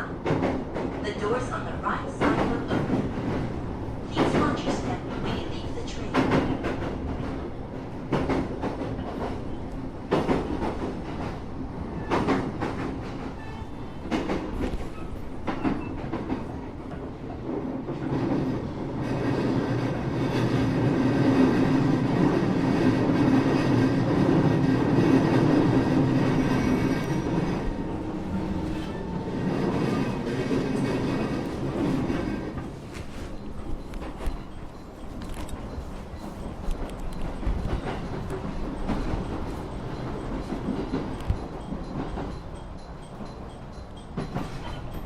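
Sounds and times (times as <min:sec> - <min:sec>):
train rumble with hum: 0:00.0 - 0:45.0
train wheels clacking over rail joints: 0:04.1 - 0:45.0.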